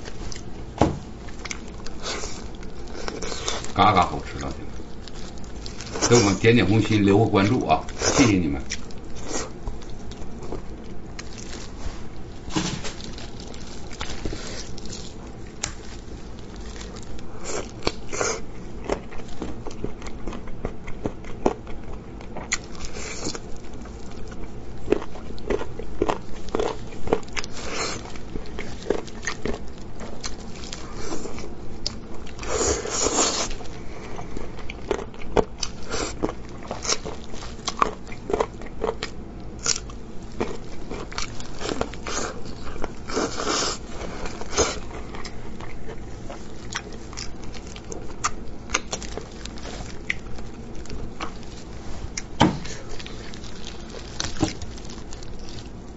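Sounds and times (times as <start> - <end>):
crunchy bites and chewing: 0.0 - 55.9
faint low hum: 0.0 - 55.9.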